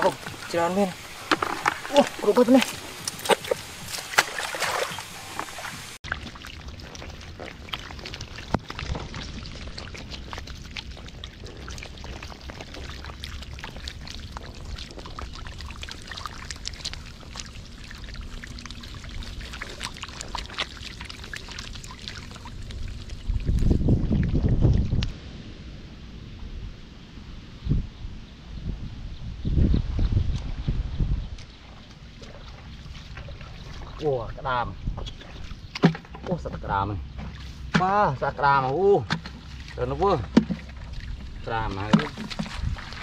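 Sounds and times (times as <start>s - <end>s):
water dripping: 0.0s - 25.1s, 31.4s - 43.0s
muddy water splashing: 0.0s - 25.2s, 31.3s - 43.0s.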